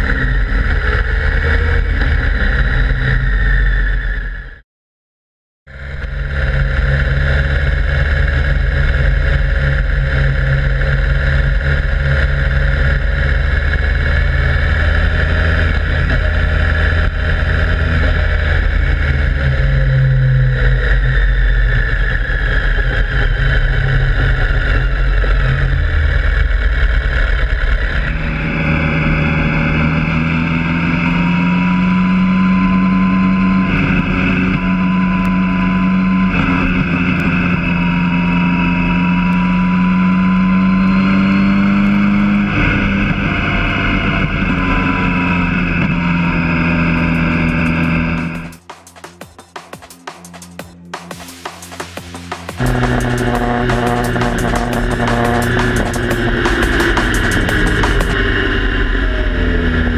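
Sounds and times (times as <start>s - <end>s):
motorcycle engine running: 0.0s - 4.4s, 5.7s - 59.9s
road noise: 0.0s - 4.6s, 5.7s - 59.9s.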